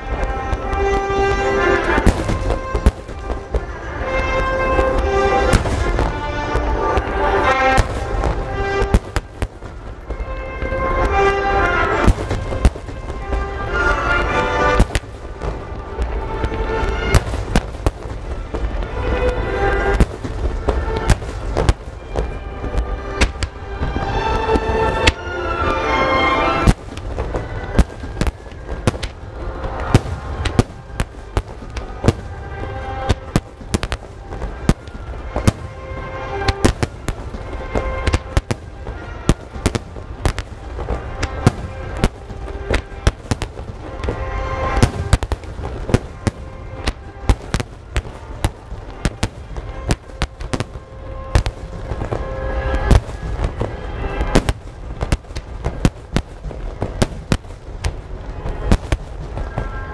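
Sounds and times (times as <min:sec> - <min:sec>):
firework shells bursting: 0:00.0 - 0:59.9
low rumble: 0:00.0 - 0:59.9
music: 0:00.0 - 0:59.9.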